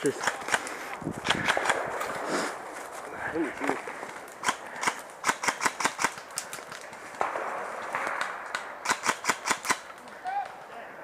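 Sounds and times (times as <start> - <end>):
airsoft guns popping: 0.0 - 2.2, 3.8 - 10.6
rustling hiss: 0.1 - 10.1.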